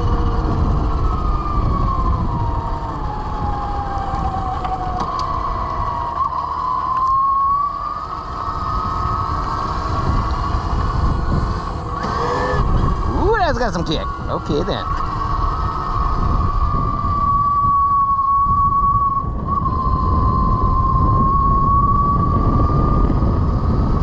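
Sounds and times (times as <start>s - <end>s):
electric motor whining: 0.0s - 24.0s
wind rumbling on microphone: 0.0s - 24.0s.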